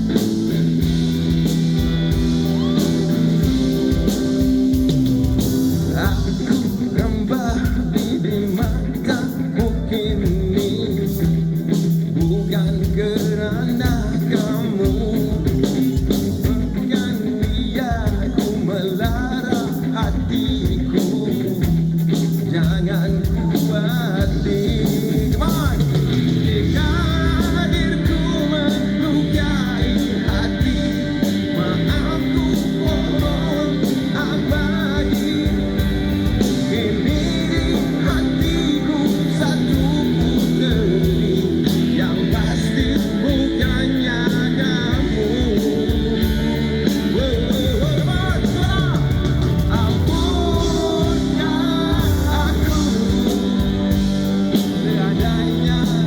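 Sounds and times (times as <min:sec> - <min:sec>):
wavering lead melody: 0:00.0 - 0:17.0, 0:24.3 - 0:56.0
bass: 0:00.0 - 0:56.0
drums: 0:00.0 - 0:56.0
electric guitar: 0:00.0 - 0:56.0.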